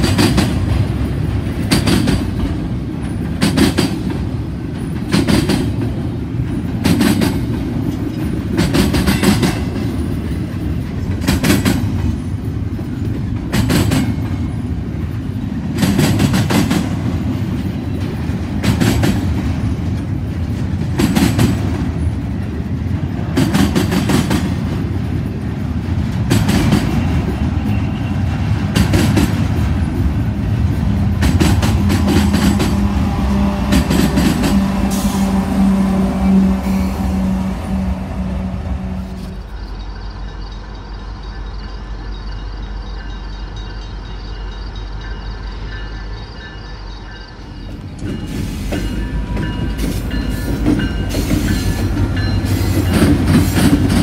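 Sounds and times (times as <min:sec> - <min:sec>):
wheels clacking over rail joints: 0:00.0 - 0:38.5, 0:45.0 - 0:54.0
freight train rumbling past: 0:00.0 - 0:54.0.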